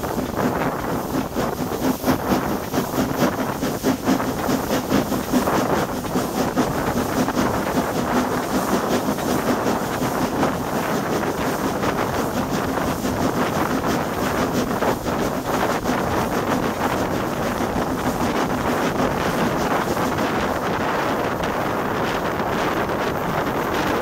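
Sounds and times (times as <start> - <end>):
steam train running: 0.0 - 24.0
wind buffeting microphone: 0.0 - 24.0.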